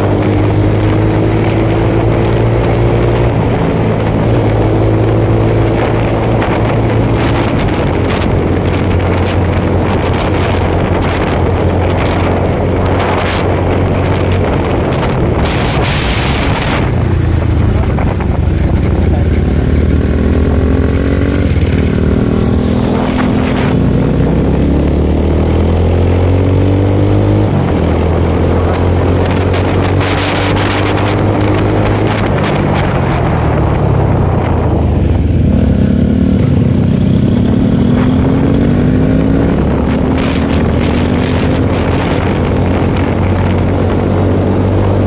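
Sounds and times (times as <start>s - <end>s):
motorcycle engine accelerating: 0.0s - 45.0s
wind rush: 0.0s - 45.0s.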